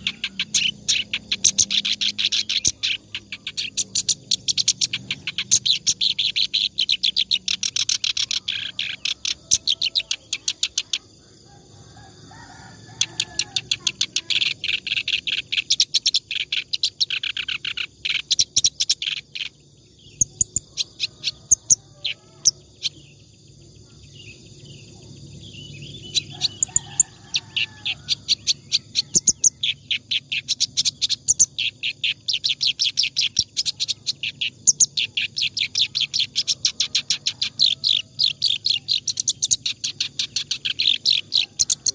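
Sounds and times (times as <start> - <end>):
reed warbler singing: 0.0 - 11.1, 12.5 - 41.9.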